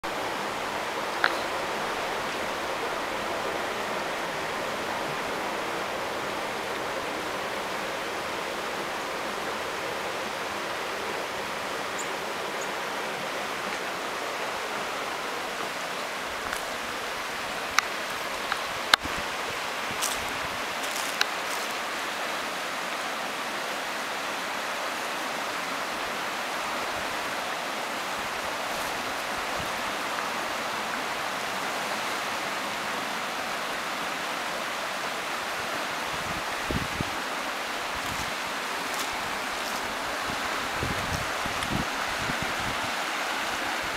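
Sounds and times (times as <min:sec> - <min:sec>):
river flowing over rocks: 0:00.0 - 0:43.9.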